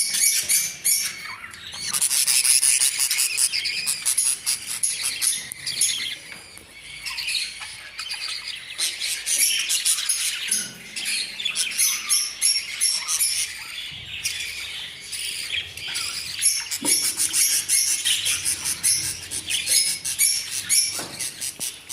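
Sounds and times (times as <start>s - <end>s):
budgerigars chirping and squawking: 0.0s - 21.9s.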